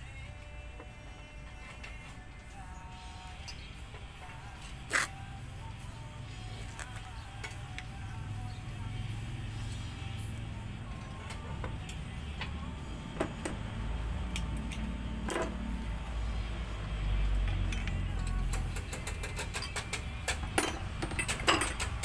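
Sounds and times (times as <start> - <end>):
low vehicle engine rumble: 0.0 - 22.0.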